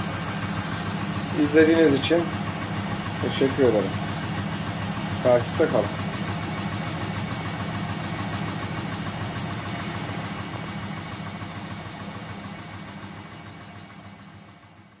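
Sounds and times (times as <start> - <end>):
washing machine spinning hum: 0.0 - 15.0.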